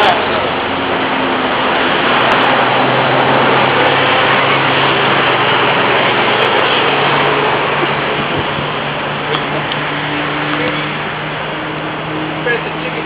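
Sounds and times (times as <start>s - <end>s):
loud rushing noise: 0.0s - 13.0s
low engine hum: 0.0s - 13.0s.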